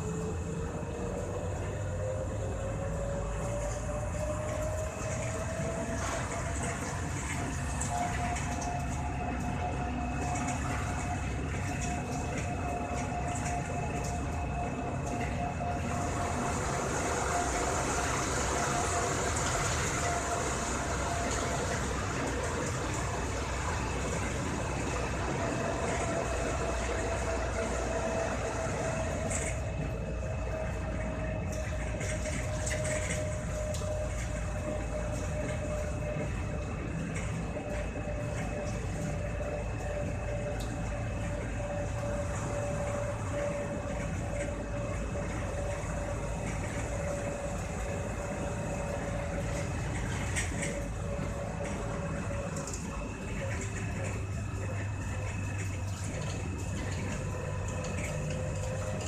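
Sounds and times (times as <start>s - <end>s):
thin steady whine: 0.0s - 59.0s
train rumble inside carriage: 0.0s - 59.0s.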